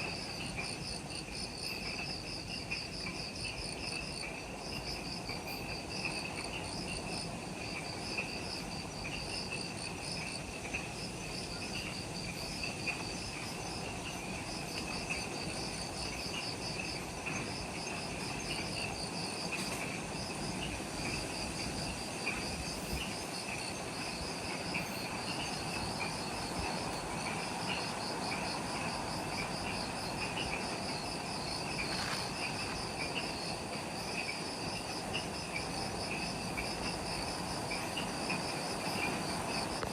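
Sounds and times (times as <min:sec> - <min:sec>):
high insect chirp: 0:00.0 - 0:39.9
pulsing insect trill: 0:00.0 - 0:39.9.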